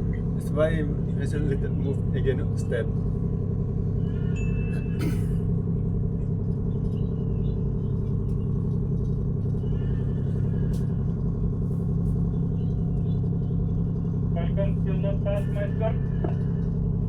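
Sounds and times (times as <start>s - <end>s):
ship engine droning: 0.0s - 17.0s.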